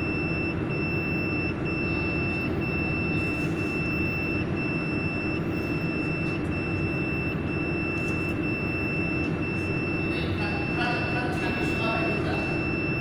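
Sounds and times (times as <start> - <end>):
fan and pump humming: 0.0 - 13.0
high-pitched alarm tone: 0.0 - 13.0.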